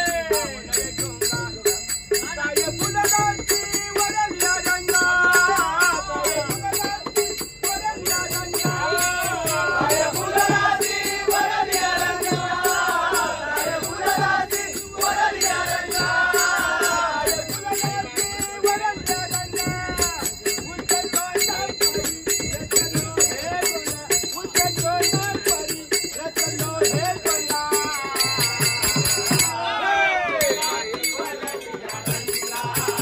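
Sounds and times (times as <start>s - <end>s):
small hand cymbals ringing: 0.0s - 29.6s, 30.3s - 33.0s
group singing: 2.7s - 33.0s.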